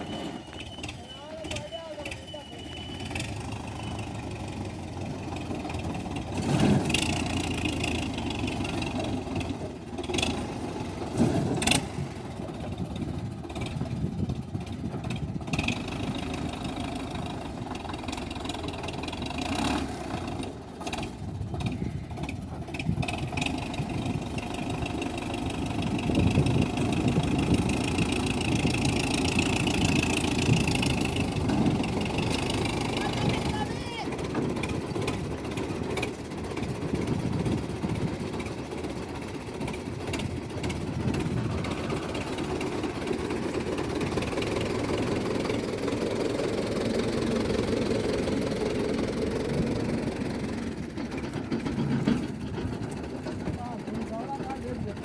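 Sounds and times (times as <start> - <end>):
tractor engine revving under load: 0.0 - 55.0.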